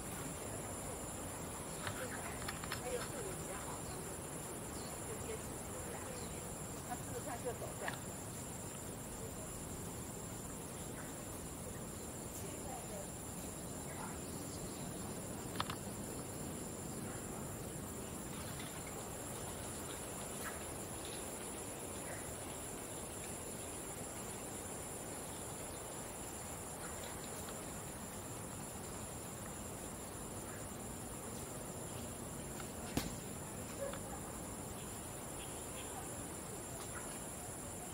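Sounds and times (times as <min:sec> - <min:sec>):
high-pitched insect chorus: 0:00.0 - 0:37.9.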